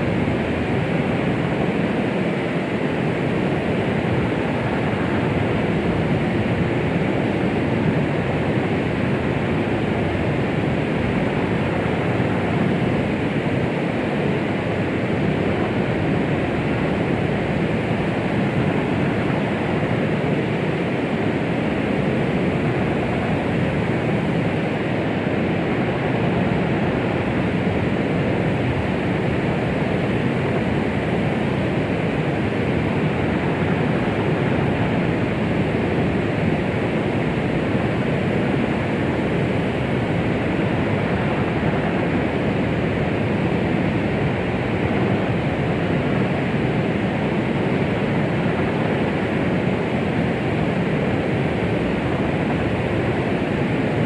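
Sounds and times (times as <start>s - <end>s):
steady white noise: 0.0s - 54.0s.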